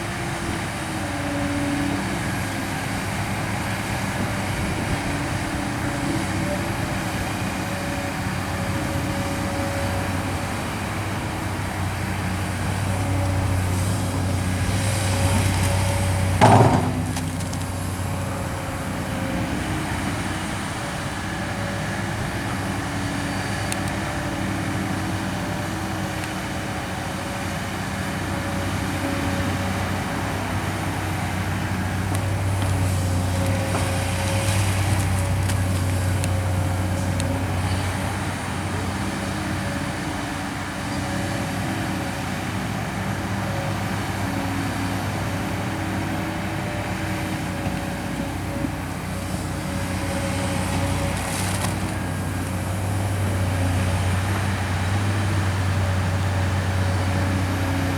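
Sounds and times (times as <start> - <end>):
excavator diesel engine humming: 0.0 - 57.9.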